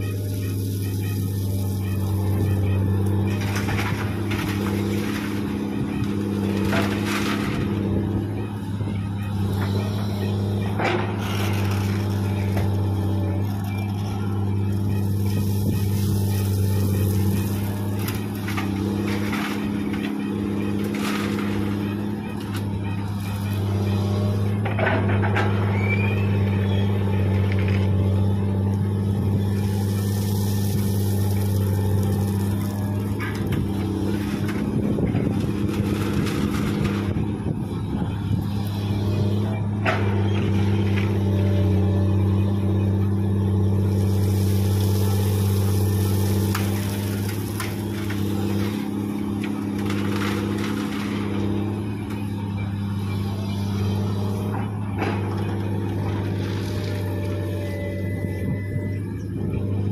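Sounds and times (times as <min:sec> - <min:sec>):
excavator diesel engine droning: 0:00.0 - 0:59.9
gravel scraping and rattling: 0:00.0 - 0:59.9.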